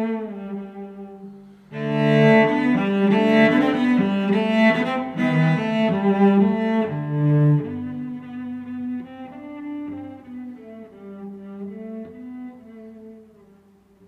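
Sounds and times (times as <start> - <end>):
instrumental music with held notes: 0.0 - 14.0.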